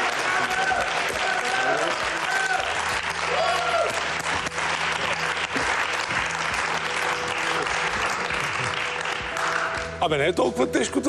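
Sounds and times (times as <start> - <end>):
audience applauding: 0.0 - 10.1
soft background music: 0.0 - 11.0.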